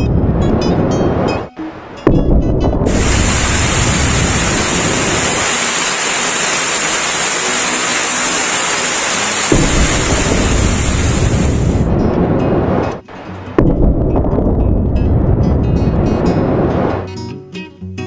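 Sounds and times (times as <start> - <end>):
heavy rain: 0.0 - 17.1
thunder rumbling: 0.0 - 17.1
sharp thunderclap: 2.0 - 13.0, 13.6 - 17.0.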